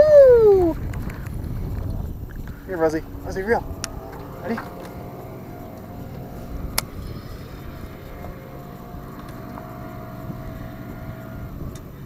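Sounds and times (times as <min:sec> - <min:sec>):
faint whine: 0:00.0 - 0:12.0
low motor hum: 0:00.0 - 0:12.0.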